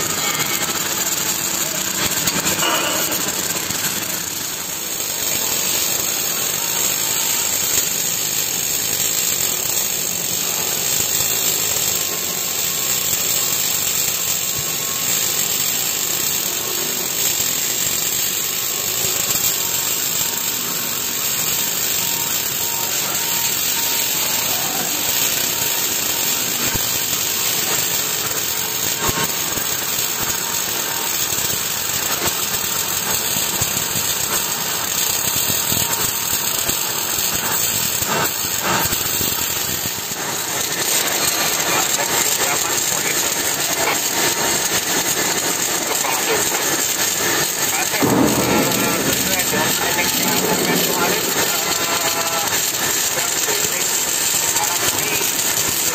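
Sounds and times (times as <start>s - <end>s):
electric arc welding crackling: 0.0s - 55.9s.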